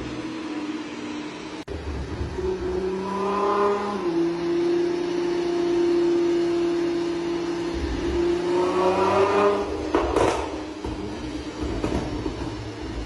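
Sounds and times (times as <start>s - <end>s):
car engine running on a dyno: 0.0s - 13.0s.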